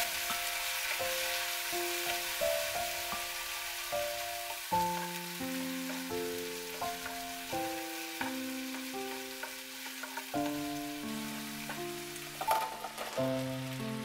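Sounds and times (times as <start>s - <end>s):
background music of held notes: 0.0s - 14.0s
onions sizzling in oil: 0.0s - 14.0s.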